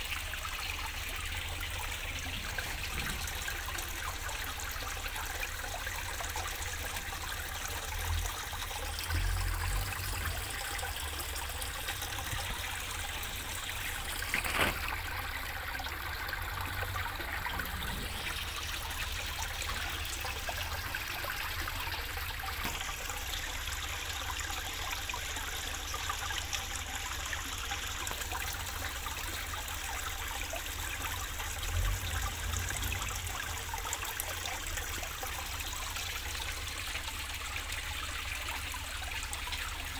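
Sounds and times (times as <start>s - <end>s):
water trickling into a pond: 0.0s - 39.9s.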